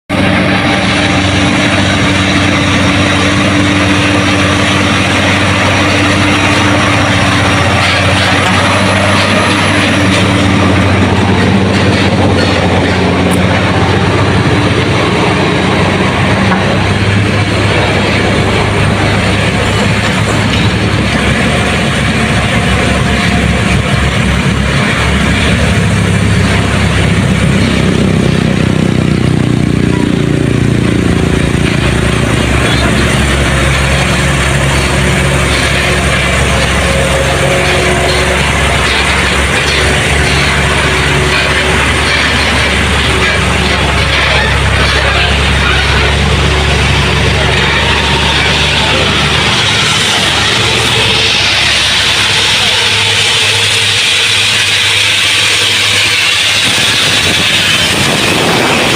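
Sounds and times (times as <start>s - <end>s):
constant noisy rush: 0.0s - 58.9s
heavy vehicle engine running: 0.0s - 58.9s.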